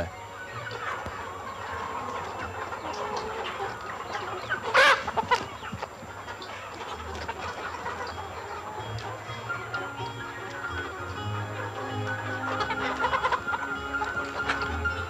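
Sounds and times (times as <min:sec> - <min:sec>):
hen squawk: 0:00.0 - 0:15.0
hens clucking and cackling: 0:00.0 - 0:15.0.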